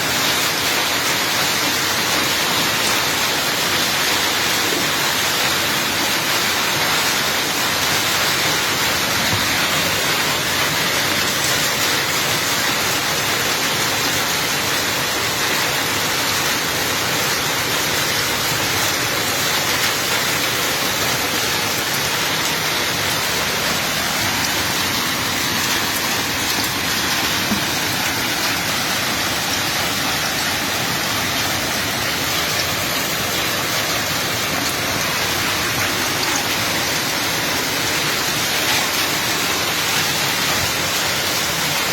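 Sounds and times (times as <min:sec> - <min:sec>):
hail: 0:00.0 - 0:41.9
heavy rain pouring: 0:00.0 - 0:41.9.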